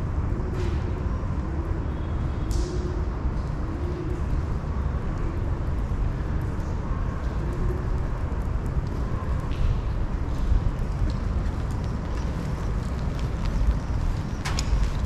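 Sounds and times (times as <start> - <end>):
low urban rumble: 0.0 - 15.0.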